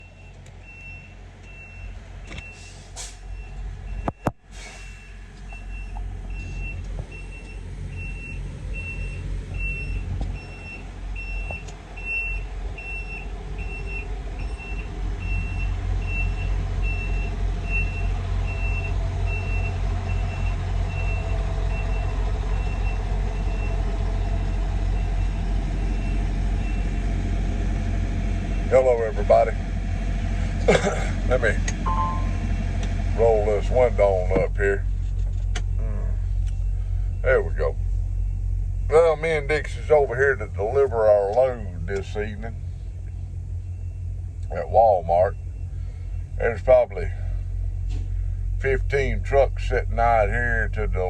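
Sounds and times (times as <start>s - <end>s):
truck backup alarm beeping: 0.0s - 29.4s, 31.7s - 51.0s
idling truck engines rumbling: 0.0s - 51.0s.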